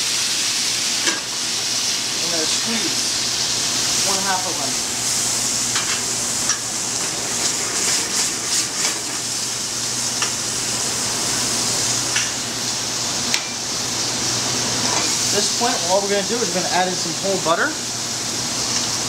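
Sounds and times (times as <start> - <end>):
sauce sizzling in a pan: 0.0 - 19.0.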